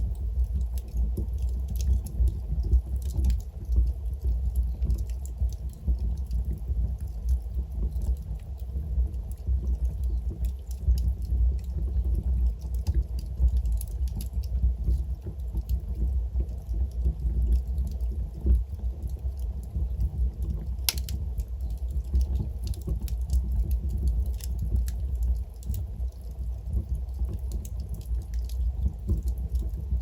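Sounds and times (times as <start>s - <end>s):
fire burning low rumble: 0.0s - 30.0s
fire crackling and popping: 0.0s - 30.0s.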